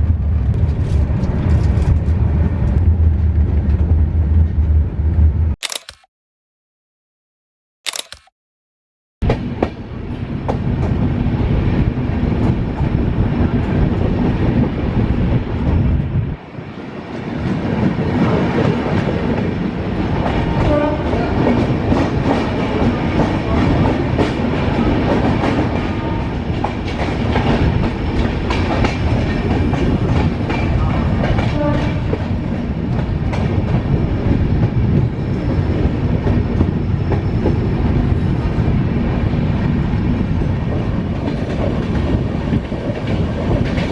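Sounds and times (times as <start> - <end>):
train wheels rumbling on rails: 0.0 - 5.6, 9.2 - 43.9.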